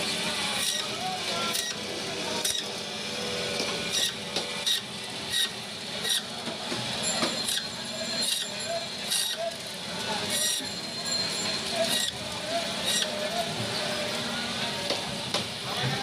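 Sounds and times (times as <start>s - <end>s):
band saw humming: 0.0s - 15.9s.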